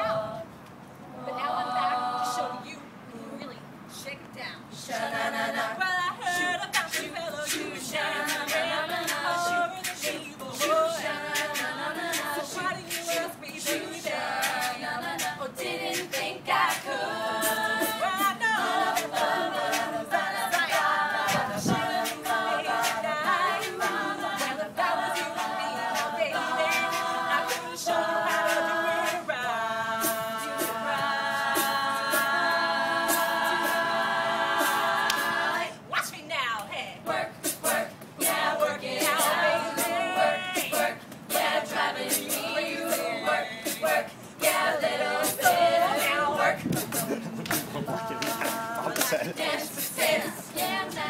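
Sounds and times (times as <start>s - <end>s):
women singing in close harmony: 0.0s - 51.0s.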